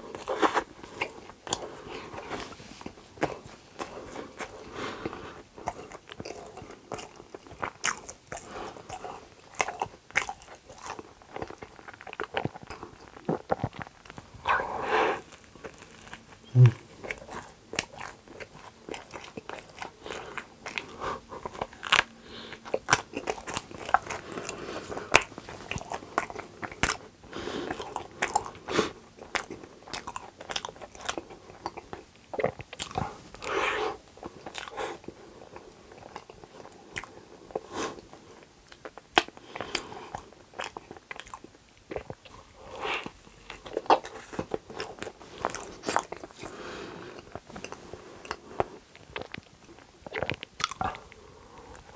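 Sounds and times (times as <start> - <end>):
biting and chewing waffle: 0.0 - 51.9.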